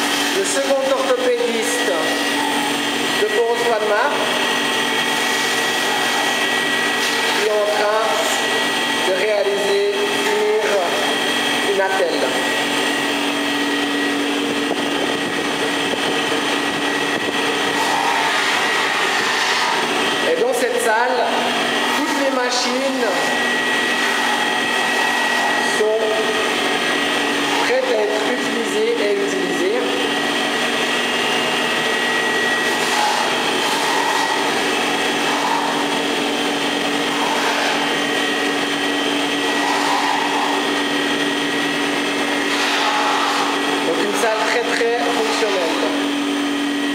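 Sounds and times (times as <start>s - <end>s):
electric motor humming and whining: 0.0s - 46.9s.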